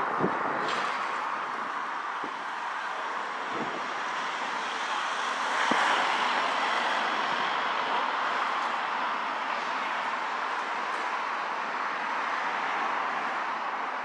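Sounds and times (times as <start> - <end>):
passing traffic hum: 0.0 - 14.0.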